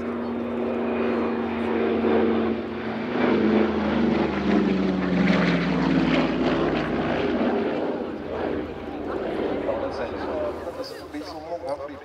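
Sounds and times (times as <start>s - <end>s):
propeller plane droning past: 0.0s - 12.0s.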